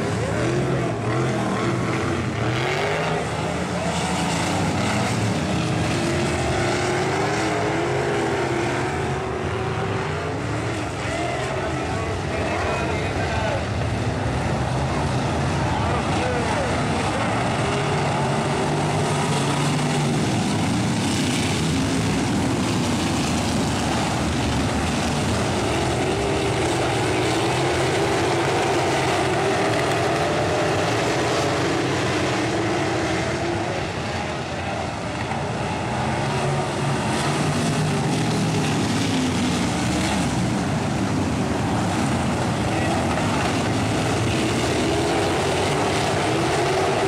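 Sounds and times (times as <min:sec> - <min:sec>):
race car engines racing: 0:00.0 - 0:47.0.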